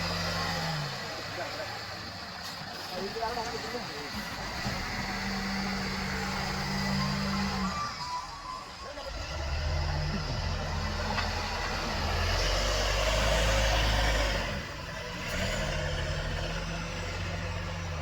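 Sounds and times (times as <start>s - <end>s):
heavy diesel engine under load: 0.0s - 18.0s.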